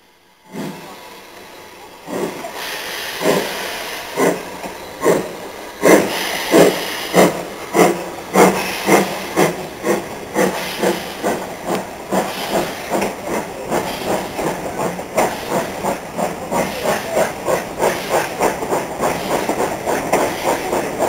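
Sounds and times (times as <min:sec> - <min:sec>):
steam locomotive exhaust beats: 0:00.1 - 0:21.0
steam hissing: 0:00.2 - 0:21.0.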